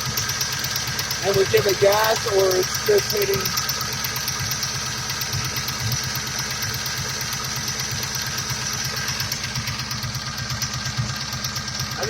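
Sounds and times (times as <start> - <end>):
car engine idling: 0.0 - 12.0
engine ticking knock: 0.0 - 12.0.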